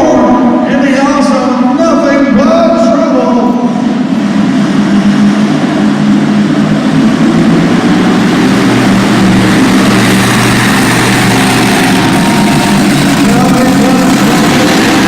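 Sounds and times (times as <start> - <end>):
monster truck engine droning: 0.0 - 15.0.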